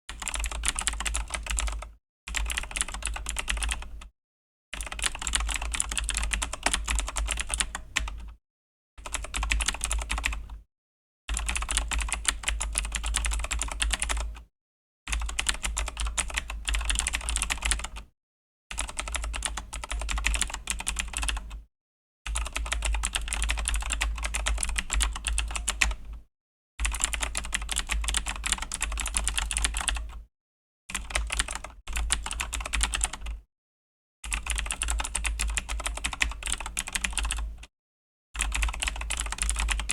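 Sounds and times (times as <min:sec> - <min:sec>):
mechanical keyboard typing: 0:00.1 - 0:04.0, 0:04.8 - 0:08.4, 0:09.0 - 0:10.6, 0:11.3 - 0:14.4, 0:15.1 - 0:18.1, 0:18.8 - 0:21.6, 0:22.3 - 0:26.0, 0:26.8 - 0:30.2, 0:30.9 - 0:33.4, 0:34.3 - 0:37.6, 0:38.4 - 0:39.9.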